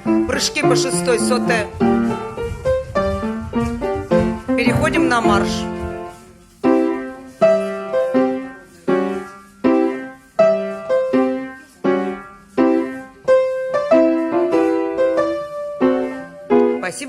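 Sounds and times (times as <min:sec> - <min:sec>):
piano playing a march: 0:00.0 - 0:17.0.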